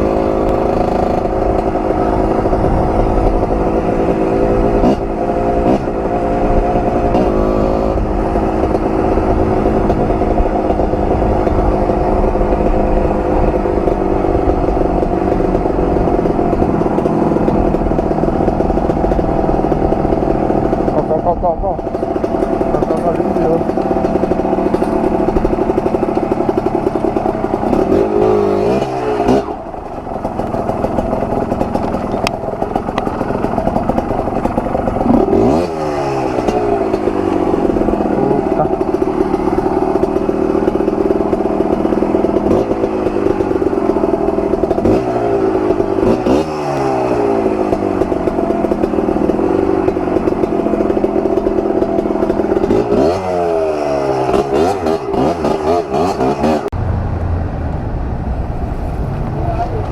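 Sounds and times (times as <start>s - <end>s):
two-stroke dirt bike engine: 0.0s - 58.0s.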